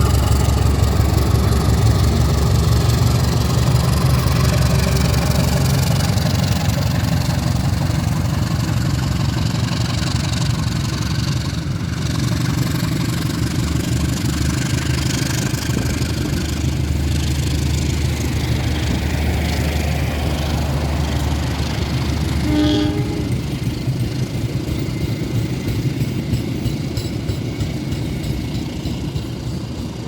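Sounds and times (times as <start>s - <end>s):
engine droning: 0.0s - 24.6s.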